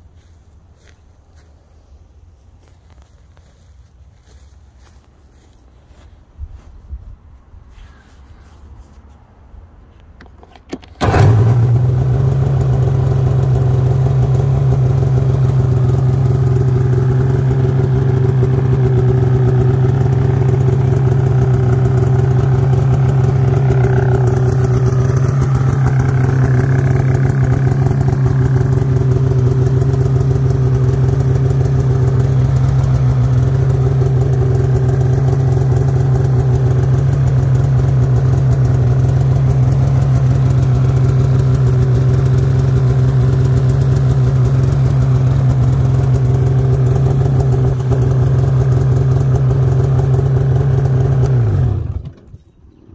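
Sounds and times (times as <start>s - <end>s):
snowmobile engine starting and idling: 10.2s - 52.9s.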